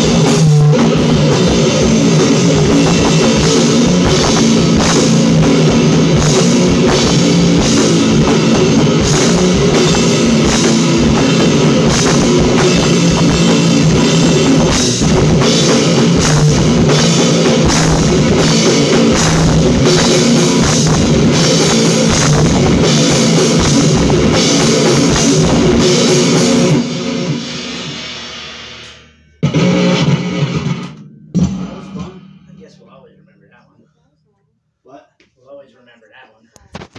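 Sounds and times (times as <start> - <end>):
heavy rock guitar and drums: 0.0 - 33.8.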